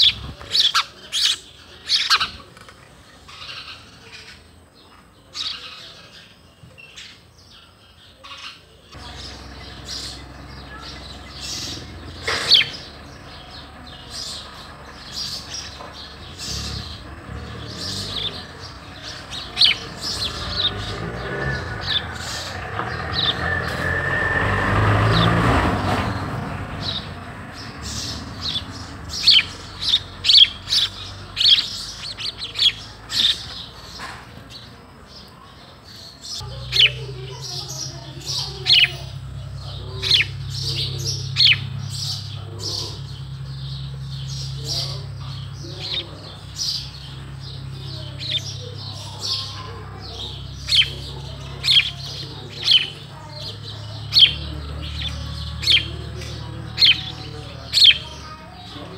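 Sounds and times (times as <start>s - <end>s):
sparrow chirping: 0.0s - 58.9s.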